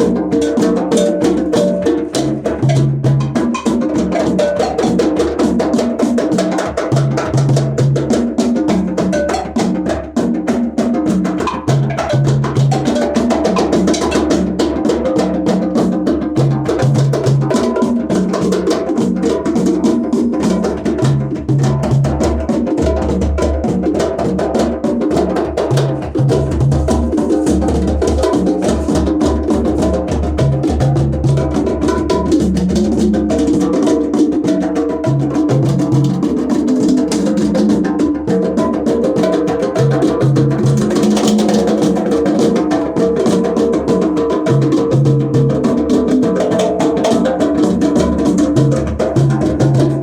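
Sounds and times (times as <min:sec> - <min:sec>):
hand drums: 0:00.0 - 0:50.0.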